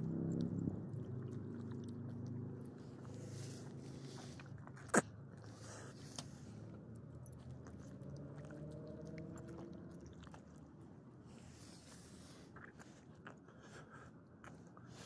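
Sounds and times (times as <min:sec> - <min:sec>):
dog chewing and licking: 0:00.0 - 0:15.0.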